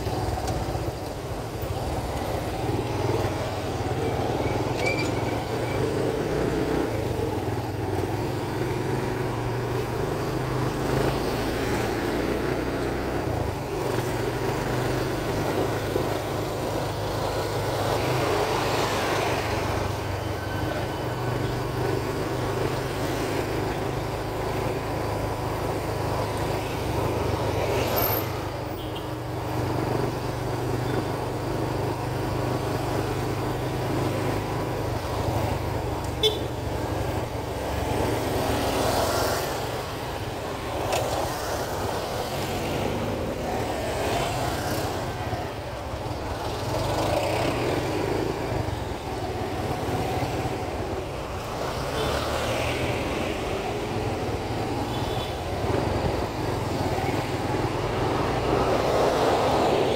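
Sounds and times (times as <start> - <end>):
motorcycle engine humming: 0.0 - 59.9
passing cars and motorcycles: 0.0 - 59.9
road noise: 0.0 - 59.9.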